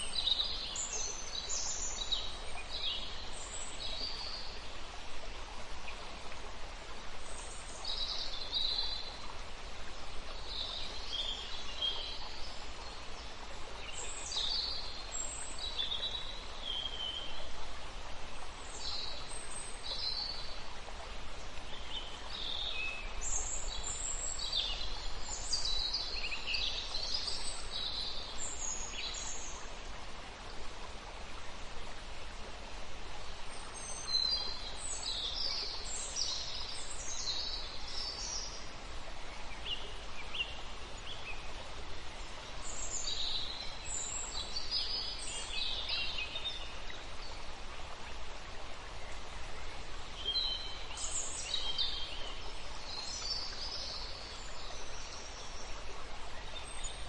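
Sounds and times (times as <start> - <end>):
outdoor ambience hiss: 0.0 - 57.0.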